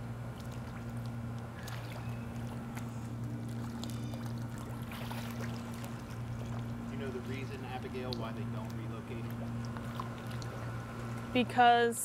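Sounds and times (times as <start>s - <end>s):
water splashing and sloshing: 0.0s - 11.7s
steady low hum: 0.0s - 12.0s.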